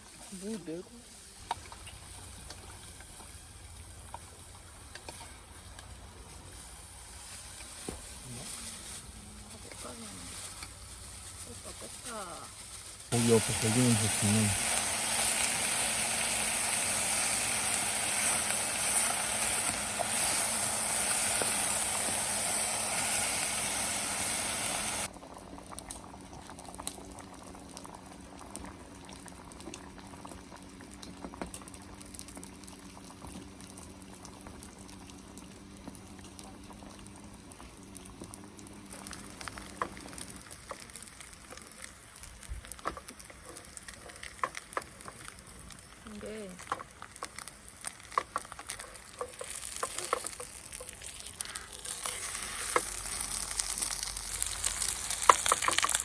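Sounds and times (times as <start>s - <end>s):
faint crackles and clicks: 0.0s - 23.6s, 24.5s - 56.0s
food sizzling: 0.0s - 56.0s.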